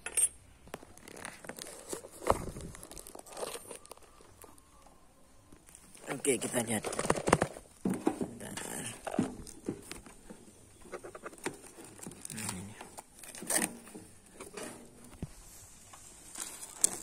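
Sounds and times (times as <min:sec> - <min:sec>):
cardboard and tape rustling: 0:00.7 - 0:04.7, 0:05.6 - 0:17.0.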